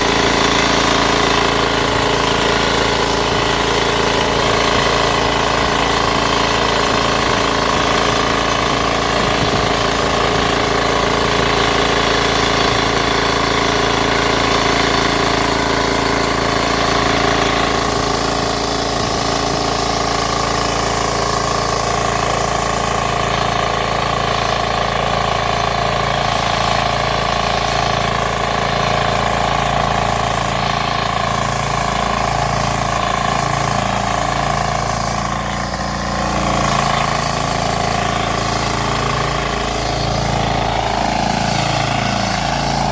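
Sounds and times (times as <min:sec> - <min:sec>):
diesel engine running steadily: 0:00.0 - 0:42.9.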